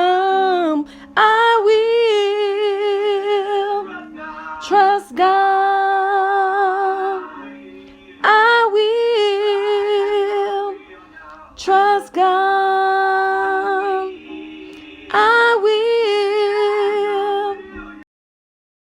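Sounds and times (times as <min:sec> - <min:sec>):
woman singing a cappella: 0:00.0 - 0:07.5, 0:08.2 - 0:10.9, 0:11.5 - 0:18.0.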